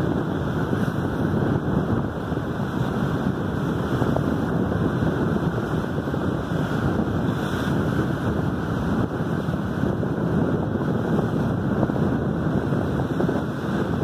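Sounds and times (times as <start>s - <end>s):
sea water rushing along boat: 0.0s - 14.0s
wind buffeting microphone: 0.0s - 14.0s.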